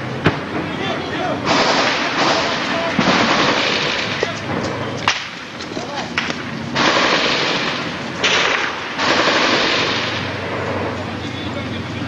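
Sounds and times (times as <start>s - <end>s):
loud rushing noise: 0.0s - 12.0s
gunshots: 0.2s - 11.0s.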